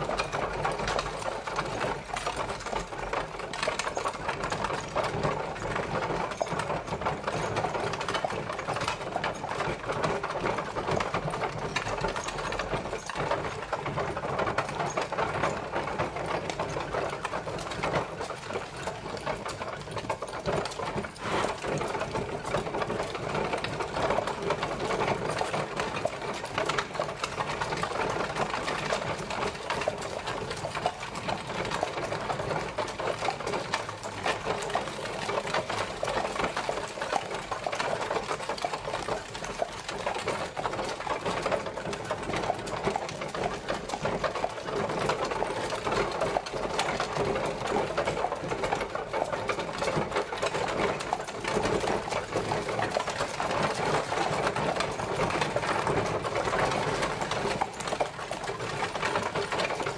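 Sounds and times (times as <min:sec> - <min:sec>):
carriage wheels rattling: 0:00.0 - 0:59.9.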